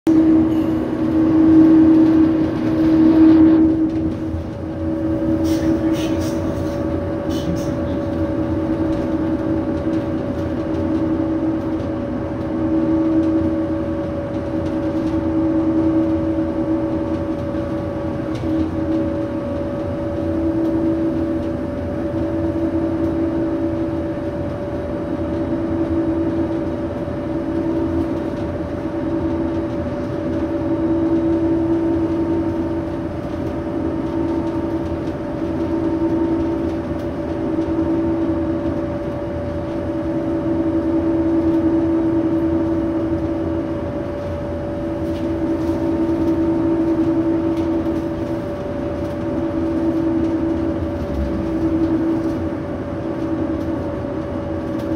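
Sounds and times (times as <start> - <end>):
low road rumble: 0.1 - 54.9
vehicle hum with two held tones: 0.1 - 54.9.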